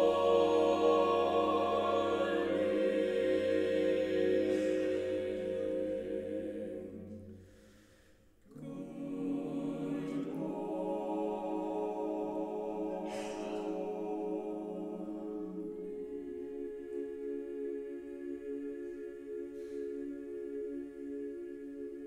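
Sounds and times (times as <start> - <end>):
mixed choir singing a cappella: 0.0 - 7.7, 8.5 - 22.0.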